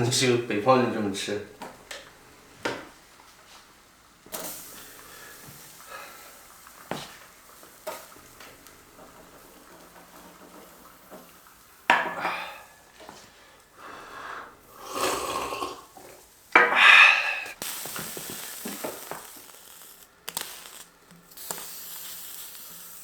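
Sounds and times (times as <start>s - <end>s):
faint sizzling hiss: 0.0s - 23.0s.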